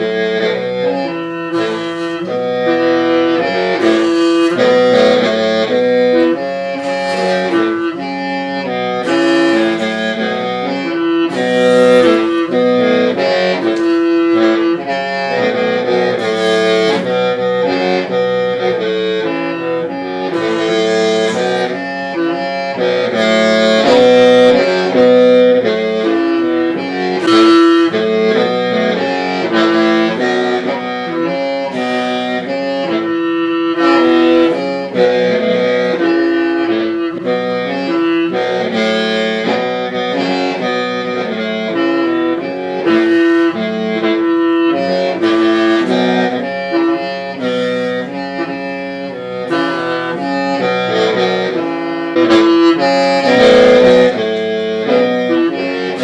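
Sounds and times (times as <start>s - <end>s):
free-reed mouth organ playing: 0.0s - 56.0s.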